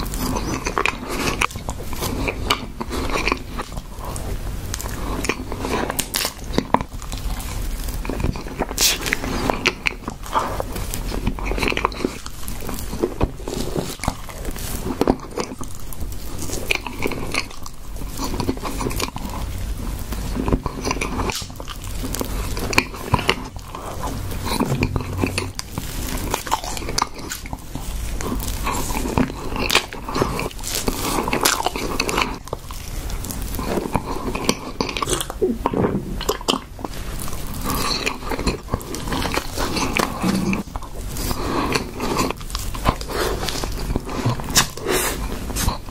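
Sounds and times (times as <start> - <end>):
chewing and wet mouth sounds: 0.0 - 45.9.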